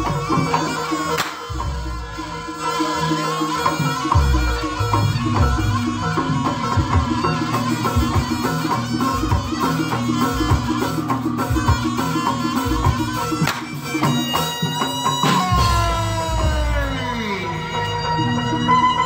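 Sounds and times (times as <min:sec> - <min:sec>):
gong-chime percussion: 0:00.0 - 0:19.0
hand drums: 0:00.0 - 0:19.0
reedy shawm melody: 0:00.0 - 0:19.0.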